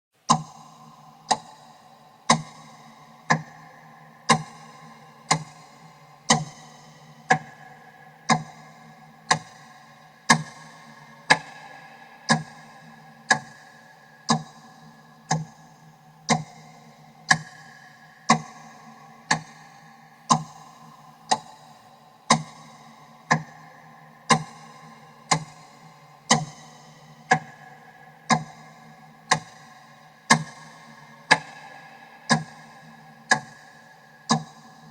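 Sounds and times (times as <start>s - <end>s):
clock ticking: 0.3s - 34.9s.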